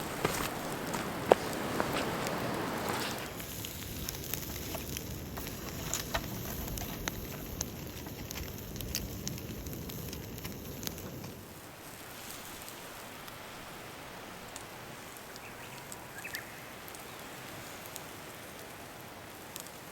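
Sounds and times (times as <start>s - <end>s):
campfire crackling and hissing: 0.0s - 19.9s.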